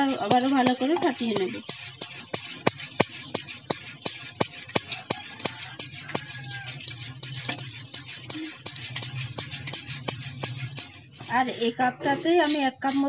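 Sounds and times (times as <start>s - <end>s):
metal spoon beating in steel bowl: 0.0s - 13.0s.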